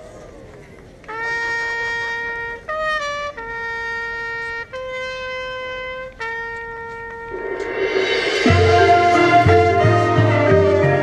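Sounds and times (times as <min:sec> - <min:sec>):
solo trumpet melody: 0:01.1 - 0:11.0.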